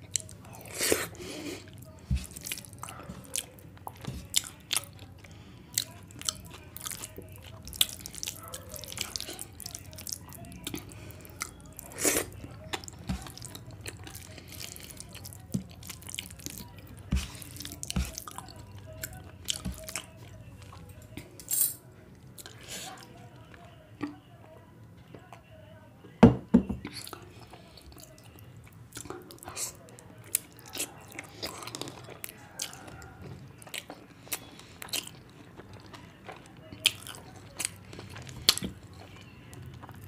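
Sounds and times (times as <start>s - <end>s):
wet chewing: 0.0s - 24.2s, 26.8s - 40.0s.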